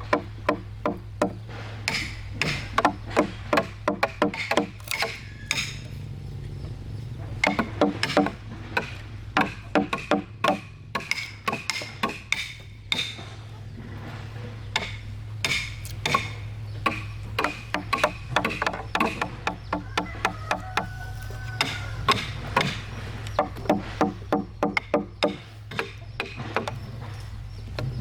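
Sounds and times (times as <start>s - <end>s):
tools knocking on timber: 0.0s - 5.9s, 7.4s - 13.4s, 14.8s - 27.0s
steady low hum: 0.0s - 28.0s.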